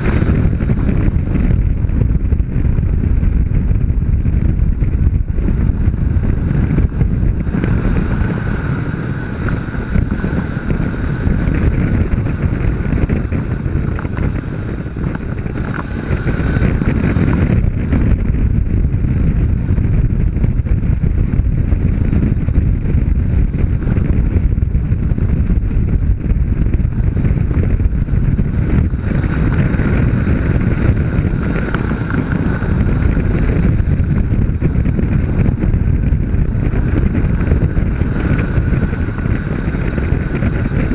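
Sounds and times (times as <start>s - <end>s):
motorcycle engine at speed: 0.0s - 40.9s
wind rushing over microphone: 0.0s - 40.9s.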